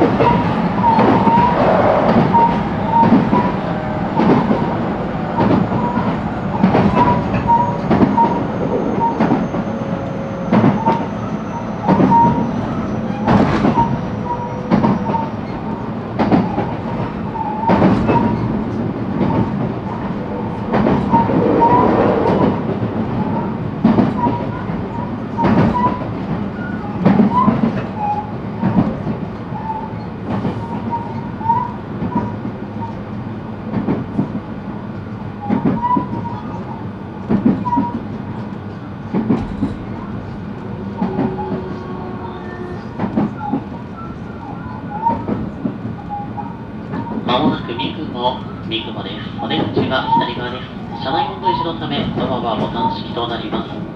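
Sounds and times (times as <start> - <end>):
electric train rumbling: 0.0 - 53.9.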